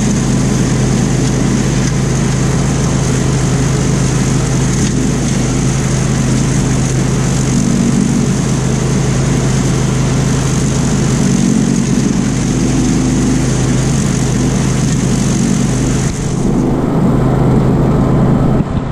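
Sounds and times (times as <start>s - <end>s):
high steady whine: 0.0s - 18.9s
ride-on mower engine running: 0.0s - 18.9s.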